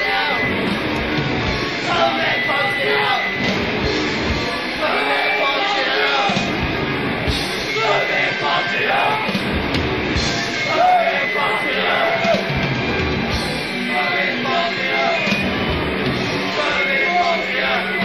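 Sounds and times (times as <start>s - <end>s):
distorted punk music: 0.0s - 18.0s.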